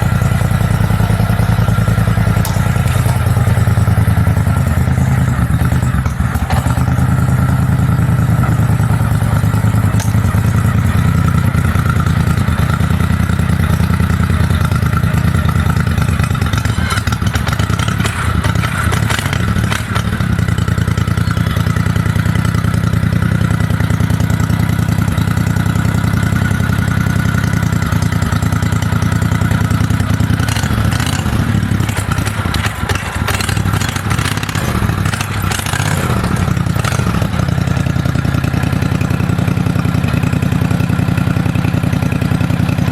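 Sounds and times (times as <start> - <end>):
mini bike engine running: 0.0 - 42.9.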